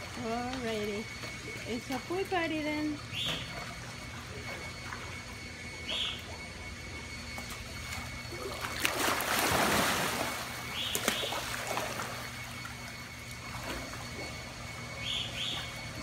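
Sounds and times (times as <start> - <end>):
dogs splashing in pool: 0.0 - 16.0
water lapping and trickling: 0.0 - 16.0.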